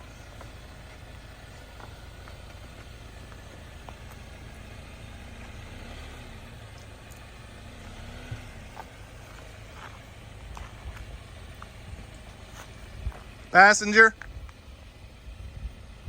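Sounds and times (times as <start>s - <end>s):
engine at low revs: 0.0s - 16.0s.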